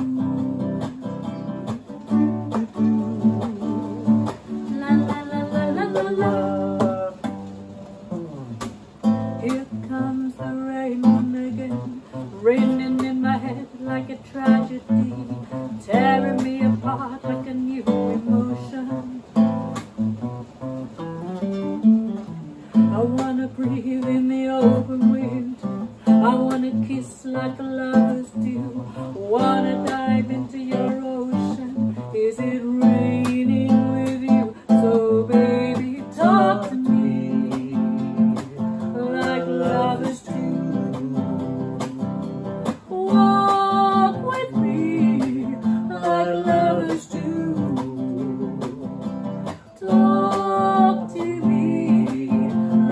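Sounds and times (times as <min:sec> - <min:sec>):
woman singing: 0:00.0 - 0:20.4, 0:21.6 - 0:52.9
nylon-string guitar strummed: 0:00.0 - 0:52.9.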